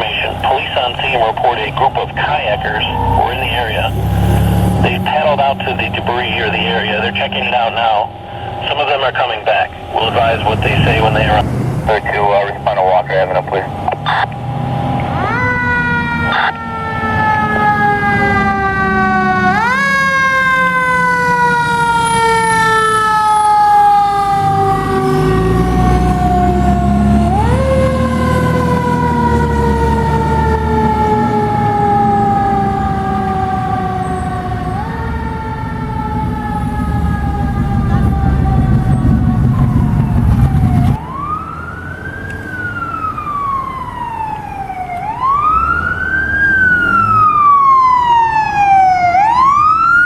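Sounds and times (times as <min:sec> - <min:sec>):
fire truck siren wailing: 0:00.0 - 0:50.0
truck engine rumble: 0:00.0 - 0:50.0.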